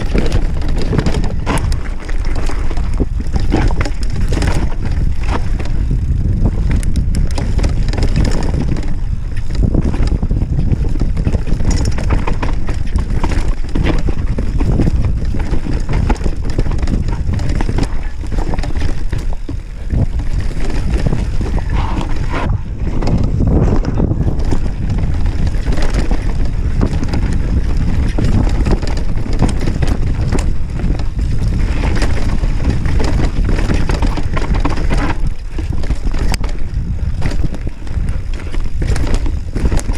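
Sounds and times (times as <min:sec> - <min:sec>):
bike rattling and knocking: 0:00.0 - 0:39.9
tyres rolling on dirt: 0:00.0 - 0:39.9
wind buffeting microphone: 0:00.0 - 0:39.9.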